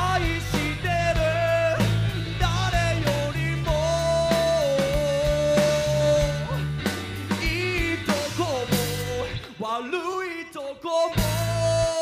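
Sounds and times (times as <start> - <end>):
drum kit: 0.0 - 10.2, 11.0 - 12.0
electric guitar: 0.0 - 12.0
live rock band playing: 0.0 - 12.0.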